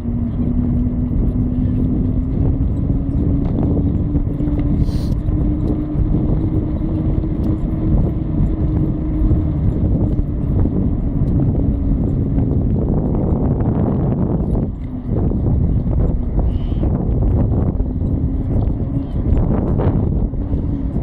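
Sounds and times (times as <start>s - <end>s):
rising hum: 0.0s - 21.0s
wheels rumbling on tarmac: 0.0s - 21.0s.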